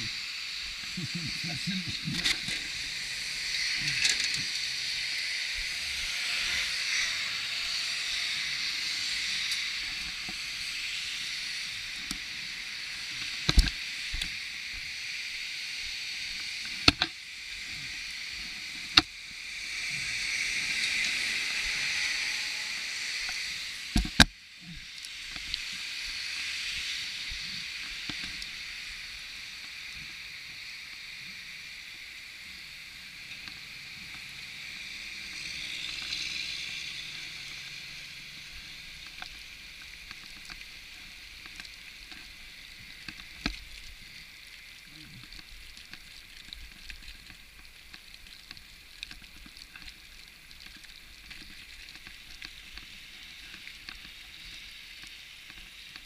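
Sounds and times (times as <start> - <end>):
tyres hissing on wet road: 0.0 - 56.0.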